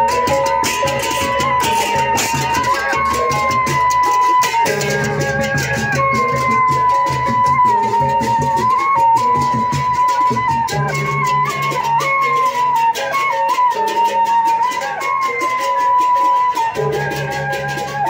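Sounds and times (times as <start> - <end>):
fast clashing percussion: 0.0 - 18.0
wind instrument melody: 0.0 - 18.0.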